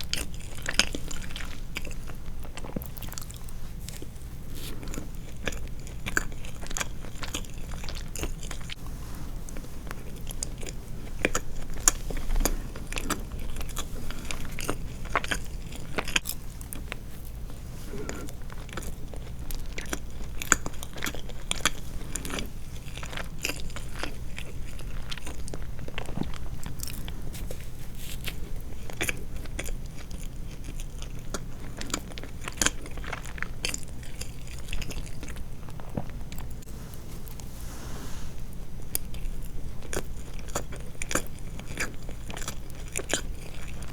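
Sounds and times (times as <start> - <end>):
close chewing and mouth sounds: 0.0 - 37.6, 38.3 - 43.9.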